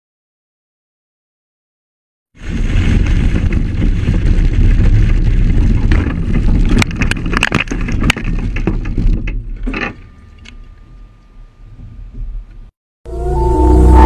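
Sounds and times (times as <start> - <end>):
road rumble: 2.4 - 14.0
wind noise: 2.4 - 14.0.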